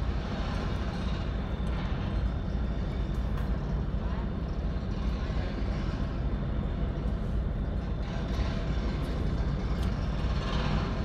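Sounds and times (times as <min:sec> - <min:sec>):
low rumble of construction machinery: 0:00.0 - 0:11.0.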